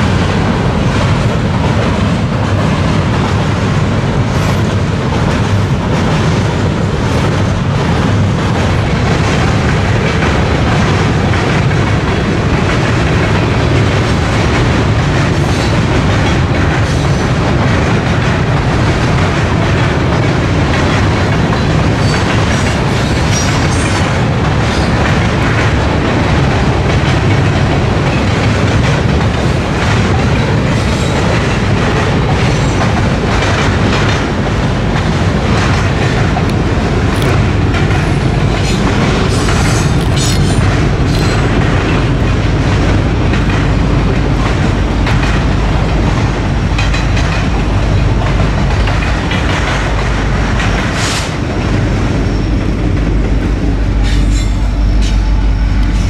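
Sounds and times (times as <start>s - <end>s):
train wheels rumbling on bridge: 0.0s - 56.0s.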